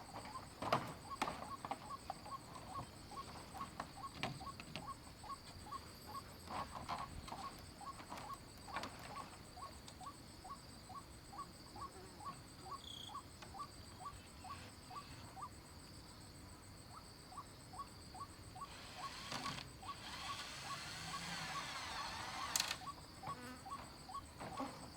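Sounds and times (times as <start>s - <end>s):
high insect drone: 0.0s - 24.9s.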